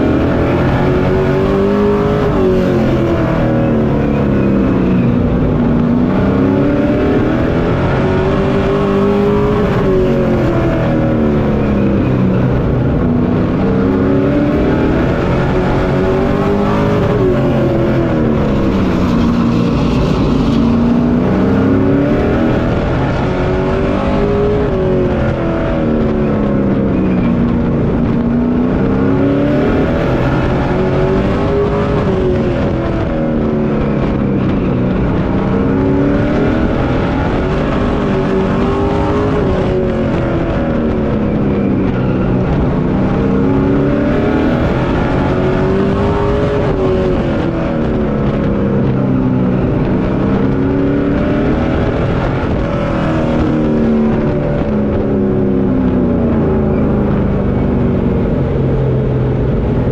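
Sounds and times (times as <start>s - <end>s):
race truck engine at speed: 0.0s - 59.9s.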